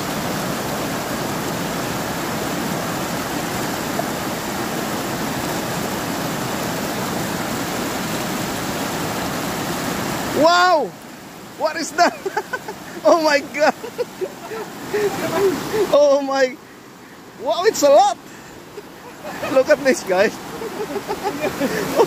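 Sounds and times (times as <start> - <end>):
river water rushing over rocks: 0.0 - 22.0.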